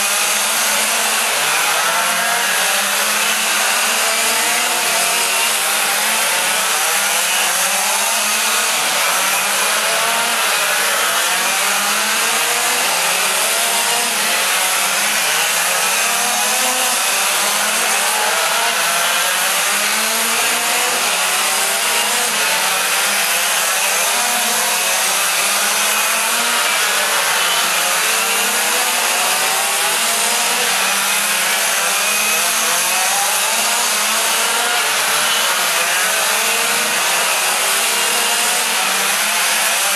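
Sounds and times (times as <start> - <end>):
small race car engines buzzing: 0.0 - 39.9.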